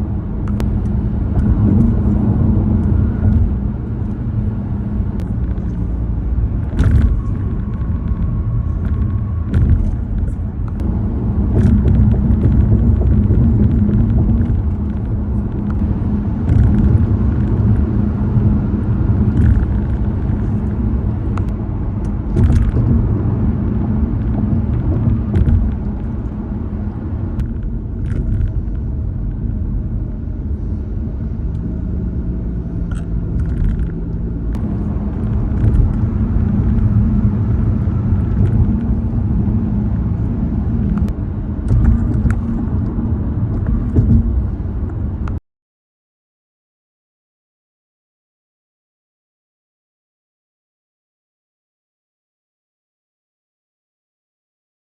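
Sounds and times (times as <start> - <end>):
road rumble and hum: 0.0 - 45.4
tires thumping over bridge joints: 0.0 - 45.4.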